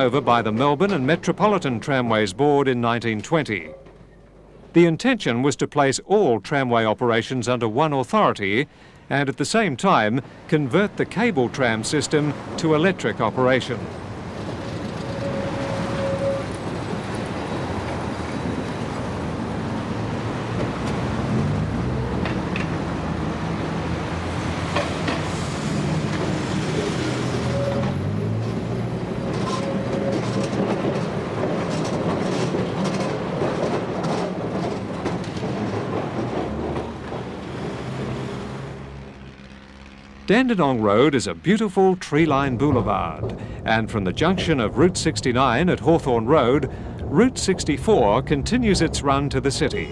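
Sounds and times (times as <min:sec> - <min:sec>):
tram wheels clacking over rail joints: 0:00.0 - 0:04.8, 0:10.8 - 0:40.3, 0:41.2 - 0:49.6
passing road traffic: 0:10.0 - 0:49.9.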